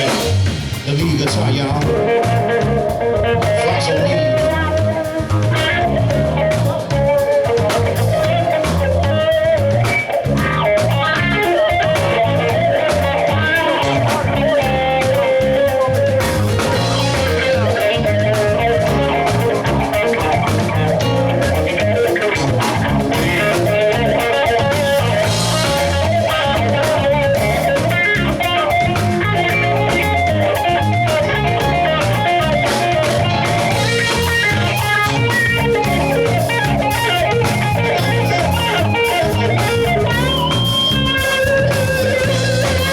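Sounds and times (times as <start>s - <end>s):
blues band playing: 0.0s - 42.9s
electric guitar solo: 0.0s - 42.9s.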